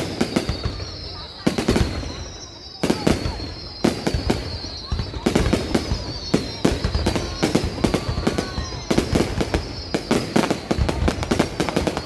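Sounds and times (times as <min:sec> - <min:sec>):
fireworks bangs and crackles: 0:00.0 - 0:12.0
high whistle-like tone: 0:00.0 - 0:12.0.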